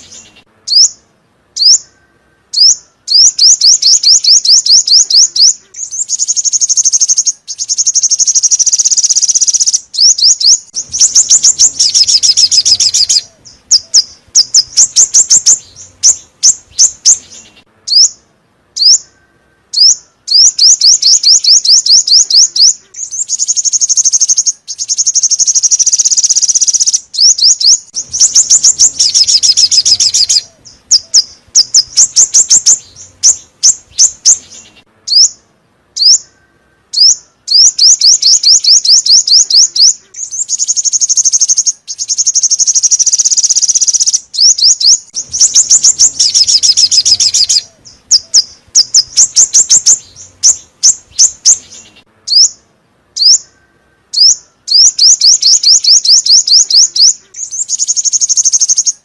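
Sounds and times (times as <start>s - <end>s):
songbird trills: 0.0s - 59.0s.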